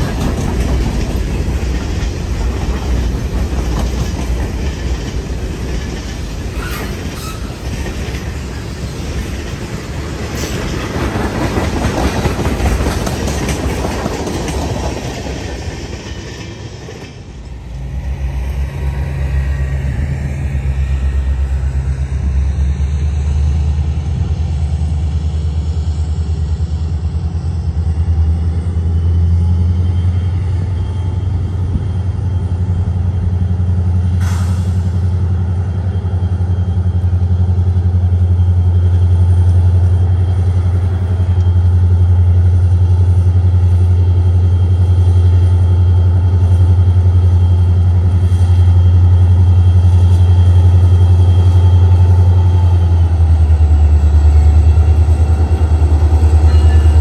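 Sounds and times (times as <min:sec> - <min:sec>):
train wheels clacking on rails: 0:00.0 - 0:19.8, 0:29.8 - 0:57.0
distant diesel locomotive rumble: 0:00.0 - 0:57.0.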